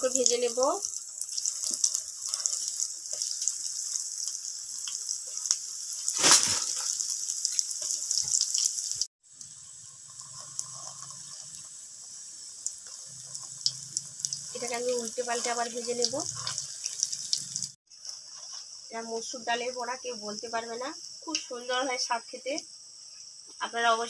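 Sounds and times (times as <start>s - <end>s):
fritters sizzling in hot oil: 0.0s - 23.8s.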